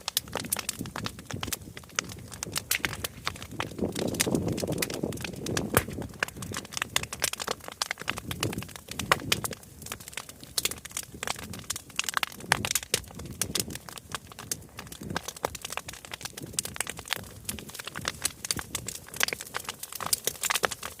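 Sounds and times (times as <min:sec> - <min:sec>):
bonfire crackling and popping: 0:00.0 - 0:21.0.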